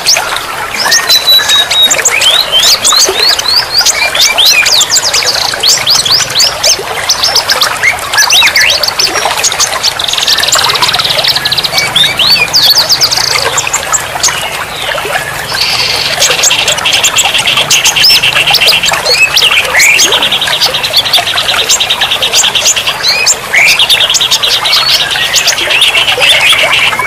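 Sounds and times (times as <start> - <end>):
songbirds singing and calling: 0.0 - 27.0.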